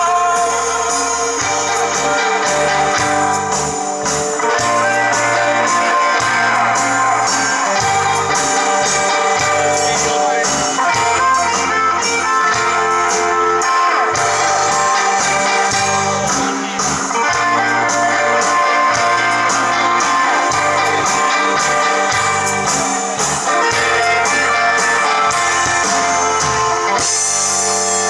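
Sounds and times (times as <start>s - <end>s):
bass guitar: 0.0s - 28.0s
electric guitar: 0.0s - 28.0s
steady drum beat: 0.0s - 28.0s.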